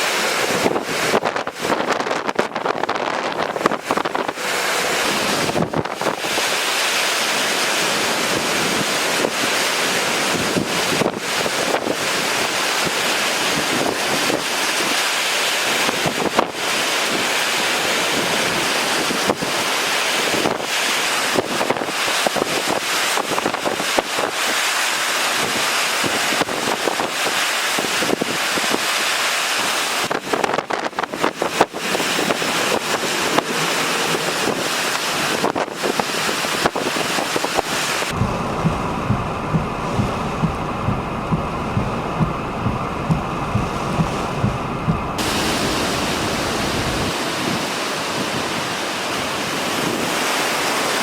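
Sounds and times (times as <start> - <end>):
strong wind buffeting microphone: 0.0 - 24.6, 25.2 - 51.0.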